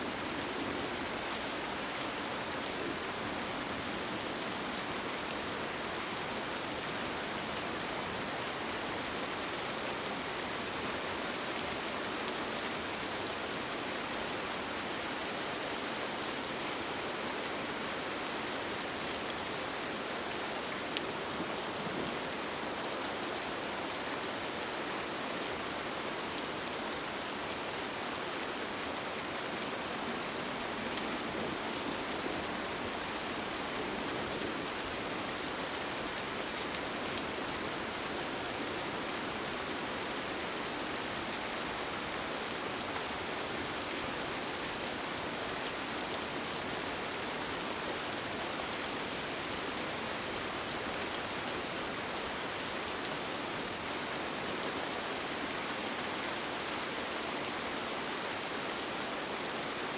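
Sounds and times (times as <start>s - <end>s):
rain falling on a tent: 0.0s - 59.9s.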